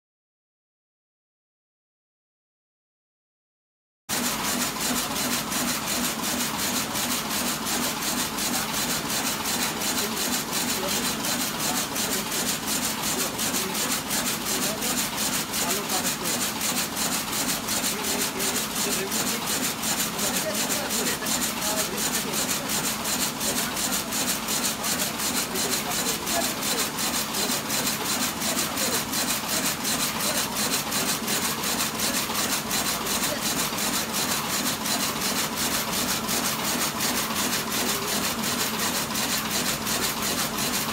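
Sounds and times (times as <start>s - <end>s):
loom mechanical clatter: 4.1s - 40.9s.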